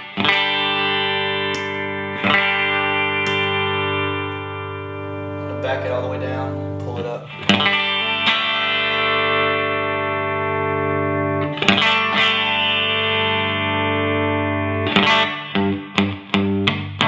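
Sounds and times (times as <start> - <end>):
electric guitar chords ringing: 0.0 - 17.0
picked electric guitar notes: 0.0 - 17.0.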